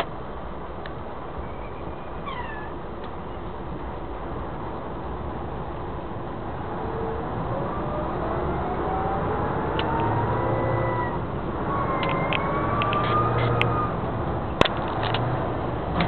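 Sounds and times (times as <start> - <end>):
heavy vehicle engine hum: 0.0 - 16.0
road noise: 0.0 - 16.0.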